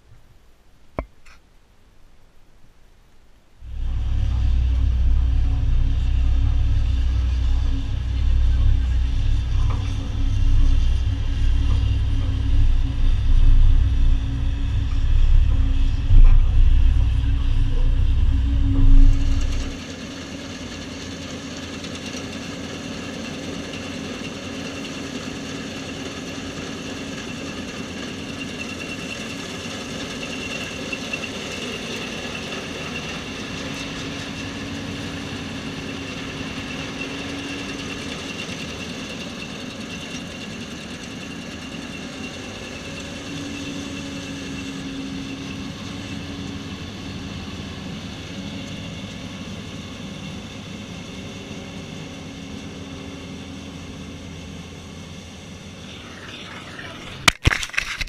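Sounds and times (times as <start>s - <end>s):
high whine: 3.5s - 58.0s
combine harvester engine drone: 3.6s - 58.0s.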